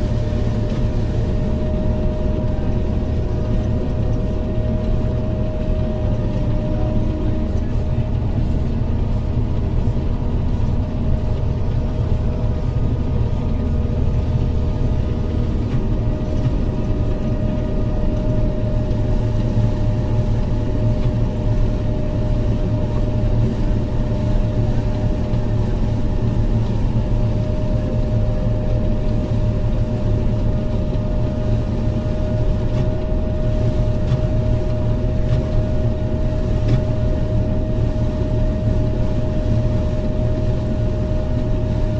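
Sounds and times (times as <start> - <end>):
diesel engine running under load: 0.0 - 41.9
steady whine: 0.0 - 41.9.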